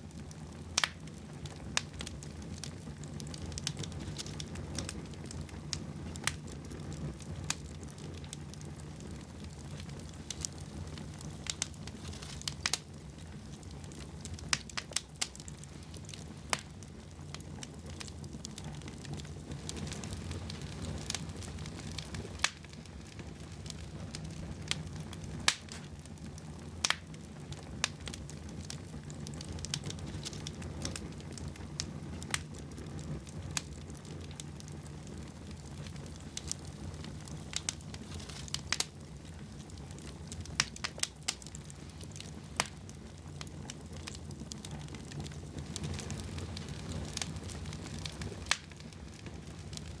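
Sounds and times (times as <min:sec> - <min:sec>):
fire crackling and popping: 0:00.0 - 0:50.0
fire rumbling: 0:00.0 - 0:50.0.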